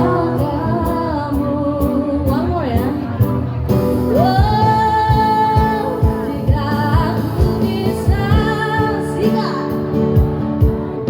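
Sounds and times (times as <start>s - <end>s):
woman singing: 0.0s - 10.4s
band playing low beat: 0.0s - 11.0s.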